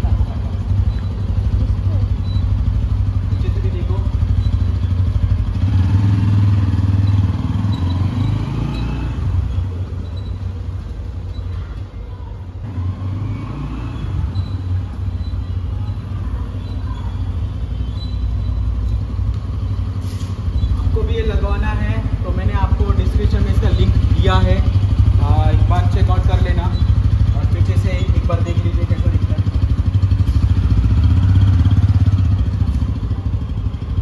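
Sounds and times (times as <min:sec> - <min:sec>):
motorcycle engine idling: 0:00.0 - 0:13.0, 0:14.0 - 0:34.0.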